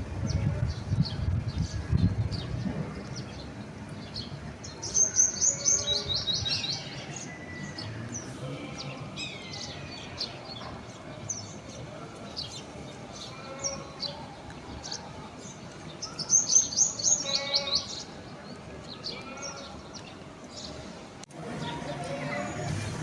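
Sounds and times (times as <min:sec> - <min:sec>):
small birds chirping: 0:00.2 - 0:22.8.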